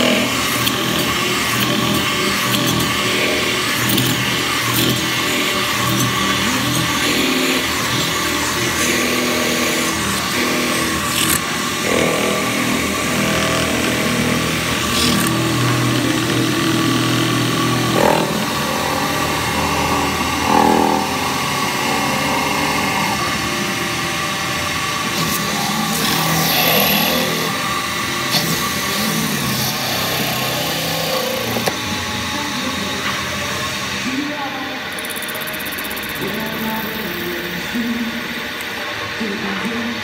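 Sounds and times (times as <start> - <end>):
metal spinning machine whirring: 0.0 - 40.0.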